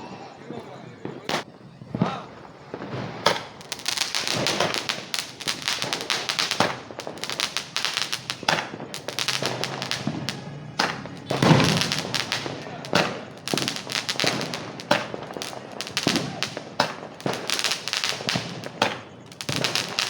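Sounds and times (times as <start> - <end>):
firecrackers crackling: 0.0 - 20.0
loud firecracker bangs: 0.4 - 20.0.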